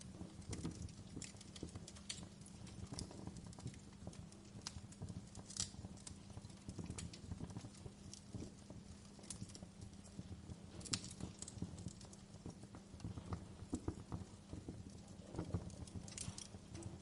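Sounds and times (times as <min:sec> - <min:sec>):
fire crackling in fireplace: 0:00.0 - 0:17.0
low fire rumble: 0:00.0 - 0:17.0.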